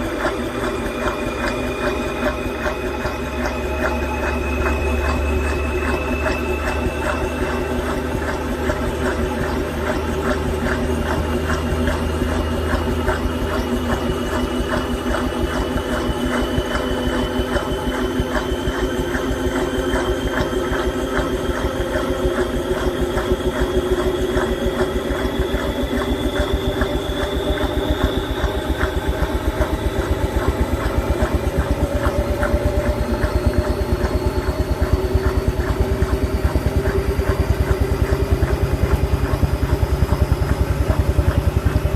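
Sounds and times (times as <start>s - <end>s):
washing machine motor whine: 0.0s - 41.9s.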